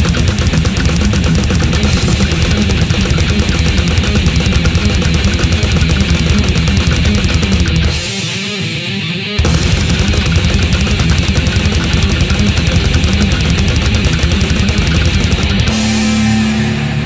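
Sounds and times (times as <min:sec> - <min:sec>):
fast drumming with cymbals: 0:00.0 - 0:08.5, 0:09.4 - 0:16.5
distorted guitars and bass: 0:00.0 - 0:17.0.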